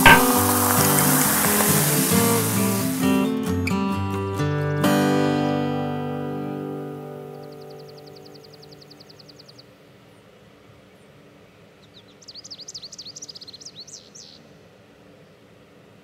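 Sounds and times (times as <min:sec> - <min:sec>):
faint background hiss: 0:00.0 - 0:03.7, 0:06.3 - 0:16.0.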